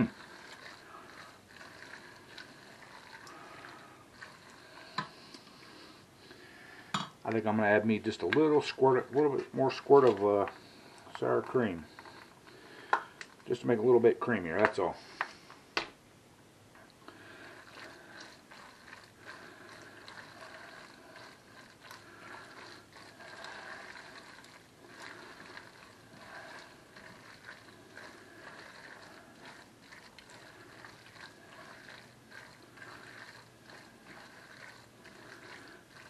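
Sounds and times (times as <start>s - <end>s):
stirring thick food in metal pot: 0.0s - 15.5s, 16.8s - 36.0s.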